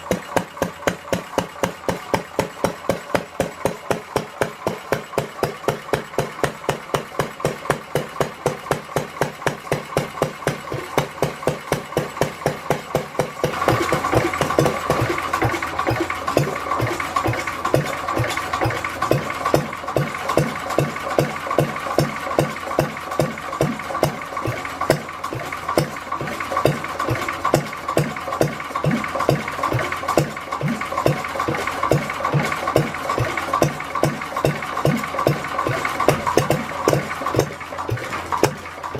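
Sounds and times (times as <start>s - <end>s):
stationary engine running: 0.0s - 38.9s.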